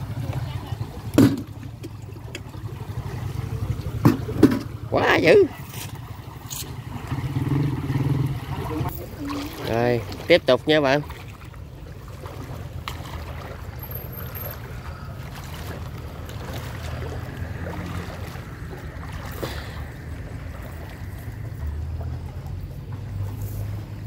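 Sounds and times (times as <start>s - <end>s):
steps sloshing through water: 0.0s - 24.0s.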